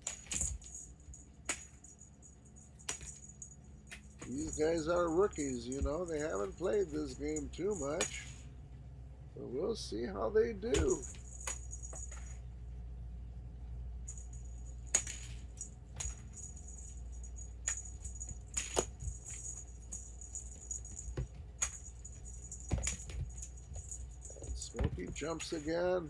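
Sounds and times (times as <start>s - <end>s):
small bell jingling: 0.0s - 8.6s, 10.6s - 12.5s, 14.1s - 26.0s.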